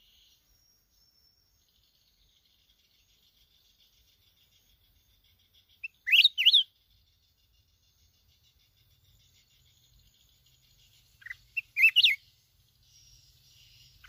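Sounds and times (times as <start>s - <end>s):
bird call with whistled notes: 0.0s - 14.0s.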